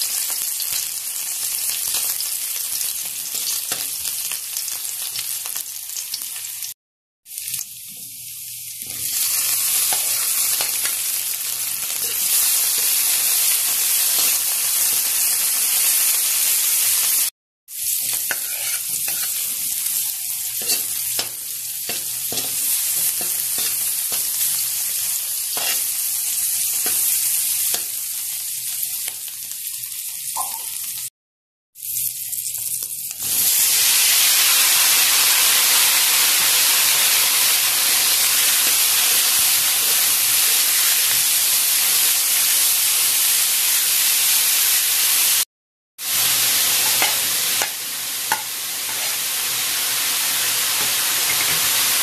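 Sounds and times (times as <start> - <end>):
food frying in a wok: 0.0 - 31.1, 31.8 - 52.0
gourd sizzling in hot wok: 0.0 - 31.1, 31.8 - 52.0.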